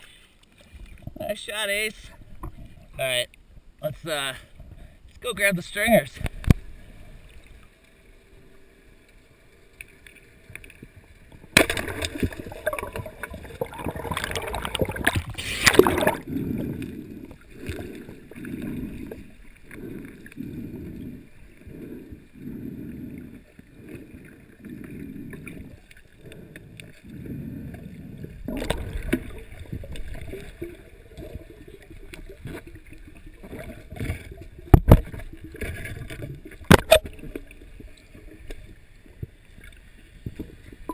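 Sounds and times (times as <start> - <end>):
underwater splashing: 0.0 - 3.7, 5.6 - 40.9.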